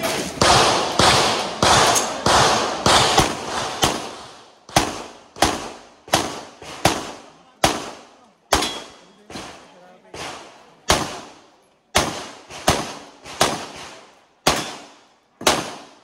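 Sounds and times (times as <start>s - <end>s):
pistol shots with echo: 0.4s - 9.6s, 10.2s - 16.0s.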